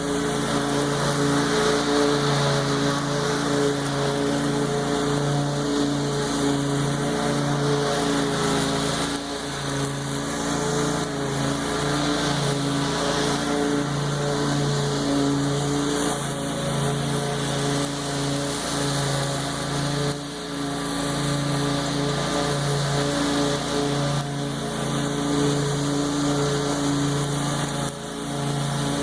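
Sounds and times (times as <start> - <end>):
lawn mower engine cutting grass: 0.0 - 29.0.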